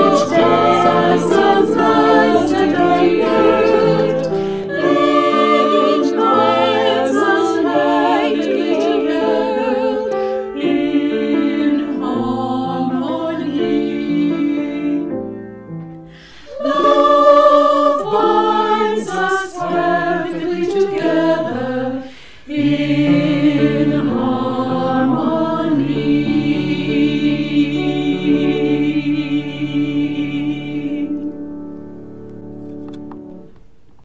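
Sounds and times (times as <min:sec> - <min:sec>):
mixed choir singing in harmony: 0:00.0 - 0:15.3, 0:16.2 - 0:31.8.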